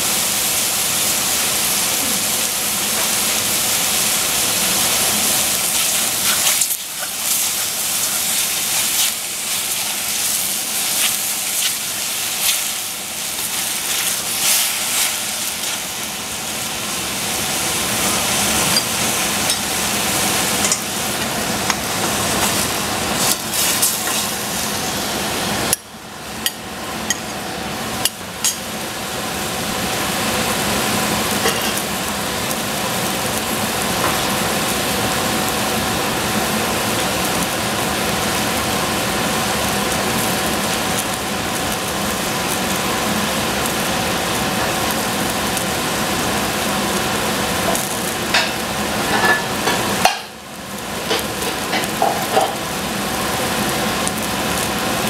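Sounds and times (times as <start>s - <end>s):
mushrooms sizzling in a pan: 0.0s - 55.0s.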